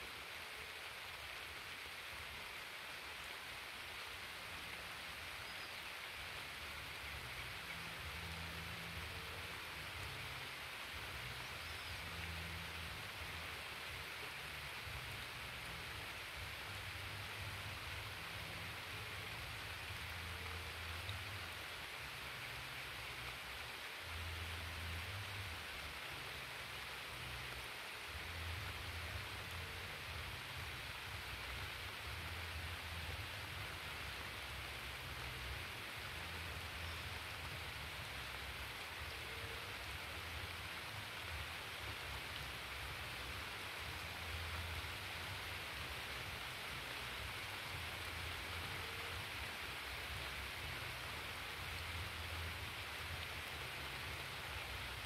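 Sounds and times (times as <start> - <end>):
light rain hissing: 0.0 - 55.0.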